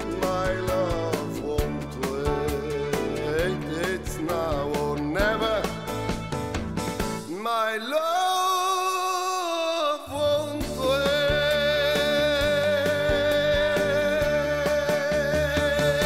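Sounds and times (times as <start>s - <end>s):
man singing a ballad: 0.0s - 6.2s, 7.2s - 16.0s
live band playing: 0.0s - 7.7s, 10.1s - 16.0s.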